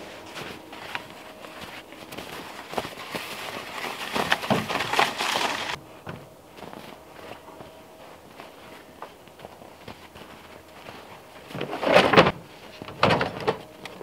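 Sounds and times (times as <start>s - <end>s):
footsteps on snow: 0.0s - 12.9s
hand truck crunching over snow: 0.0s - 14.0s.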